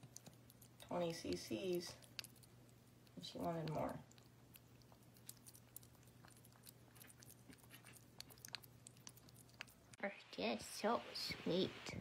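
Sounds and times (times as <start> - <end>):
cat chewing wet food: 0.0 - 10.0.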